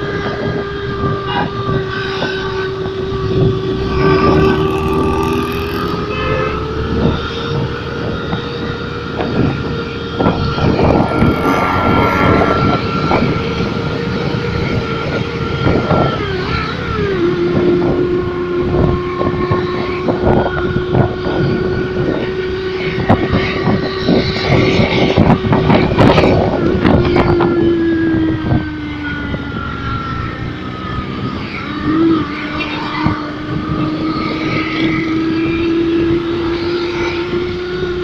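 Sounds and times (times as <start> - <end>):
engine-like electronic tone: 1.2 - 38.0.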